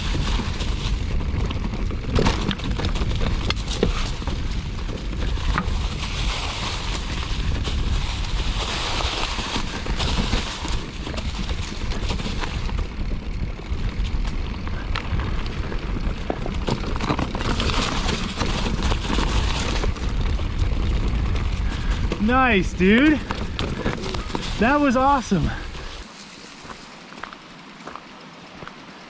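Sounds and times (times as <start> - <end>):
wind rumbling on microphone: 0.0 - 27.3
mountain bike rattling over trail: 0.0 - 29.0.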